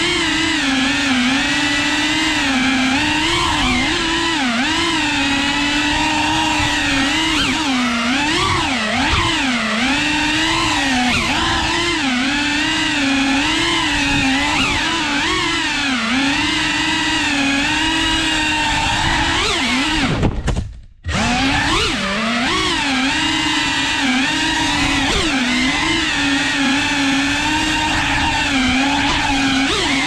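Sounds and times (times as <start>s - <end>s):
quadcopter motors whining: 0.0s - 20.3s, 21.0s - 30.0s.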